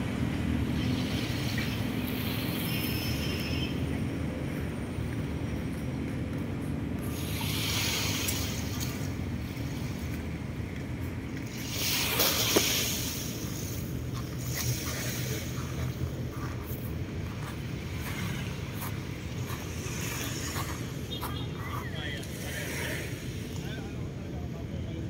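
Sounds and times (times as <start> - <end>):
beach ambience low rumble: 0.0 - 25.0.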